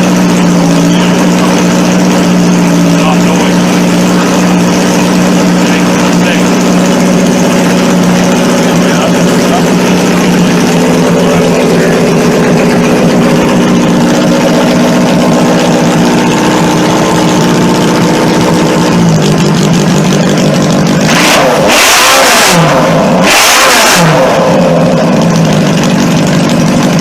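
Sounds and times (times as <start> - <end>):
garden tractor engine revving: 0.0 - 27.0.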